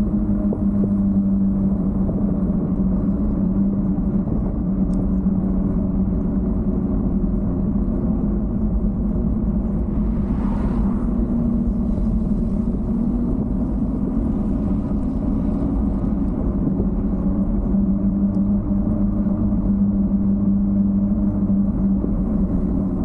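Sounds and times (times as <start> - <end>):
road rumble: 0.0 - 23.0
wind noise: 0.0 - 23.0.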